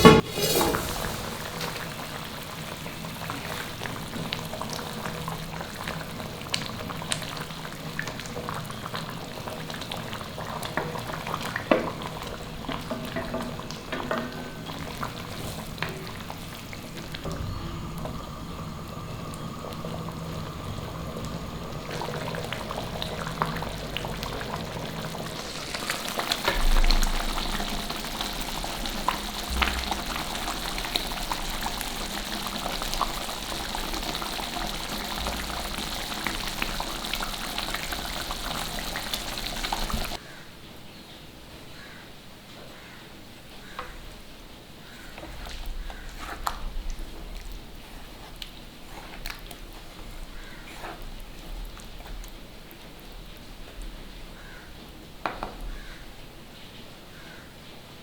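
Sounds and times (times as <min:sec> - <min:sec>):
gravy sizzling in a pan: 0:00.0 - 0:40.2, 0:44.8 - 0:56.3.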